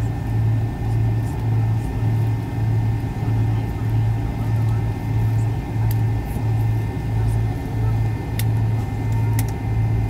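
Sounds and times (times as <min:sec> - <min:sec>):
aircraft cabin rumble: 0:00.0 - 0:10.0
low throbbing hum: 0:00.0 - 0:10.0.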